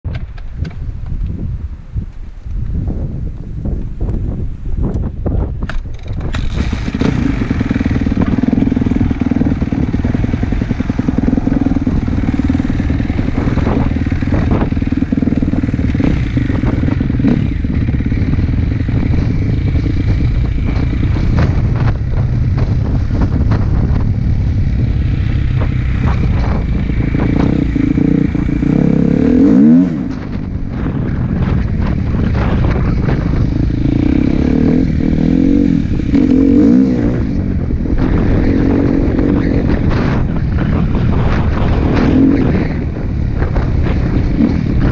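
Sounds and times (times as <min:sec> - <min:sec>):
dirt bike engine revving: 0:06.0 - 0:44.9.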